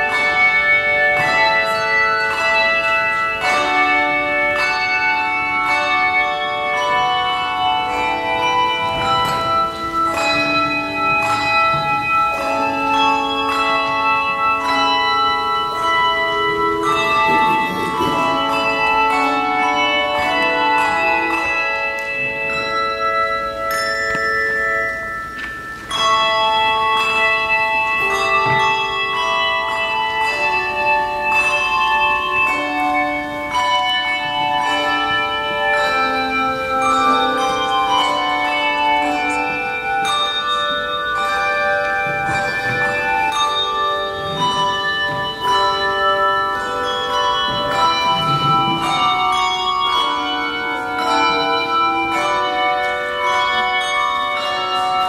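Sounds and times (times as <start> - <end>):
handbells playing: 0.0 - 55.0.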